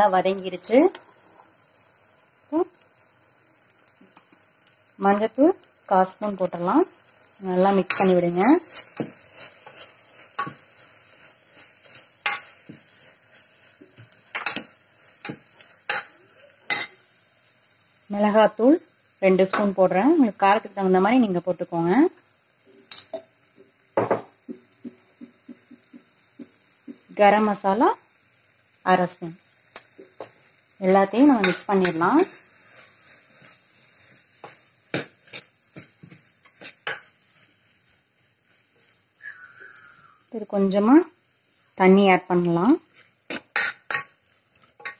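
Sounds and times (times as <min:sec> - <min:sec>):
masala sizzling: 0:00.0 - 0:44.9.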